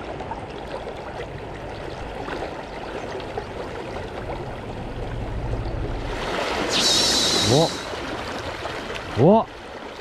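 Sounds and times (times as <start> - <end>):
river running over stones: 0.0 - 10.0.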